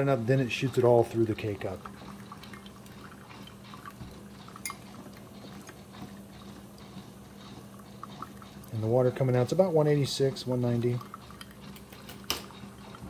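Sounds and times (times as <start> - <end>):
coffee dripping into a mug: 0.0 - 13.0
coffee maker pump hum: 0.0 - 13.0.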